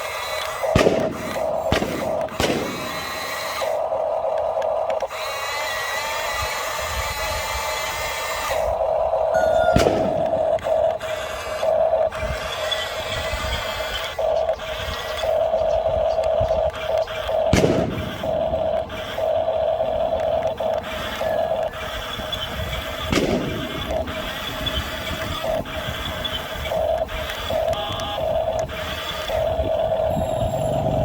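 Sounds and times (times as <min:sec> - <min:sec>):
small electric motor whining: 0:00.0 - 0:31.0.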